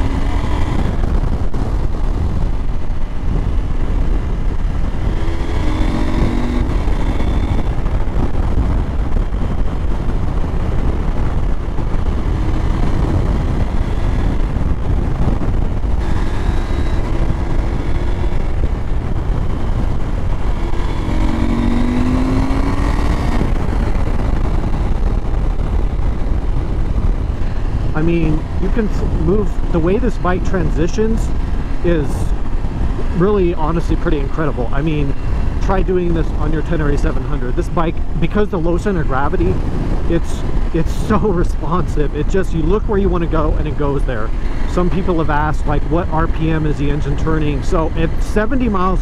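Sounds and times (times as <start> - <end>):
motorcycle engine accelerating: 0.0 - 49.0
wind rumble on microphone: 0.0 - 49.0.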